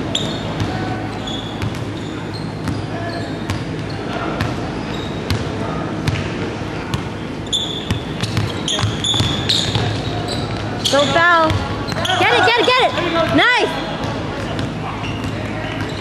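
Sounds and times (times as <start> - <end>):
busy gym noise: 0.0 - 16.0
sneaker squeaks: 0.0 - 16.0.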